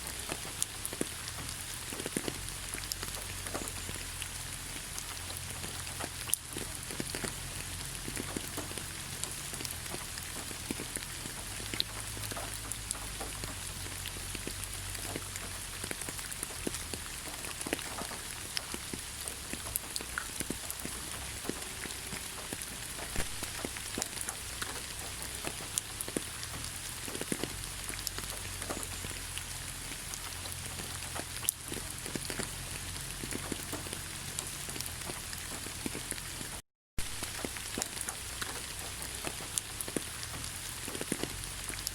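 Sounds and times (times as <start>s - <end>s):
rain falling in a forest: 0.0s - 41.9s
raindrops ticking: 0.0s - 41.9s.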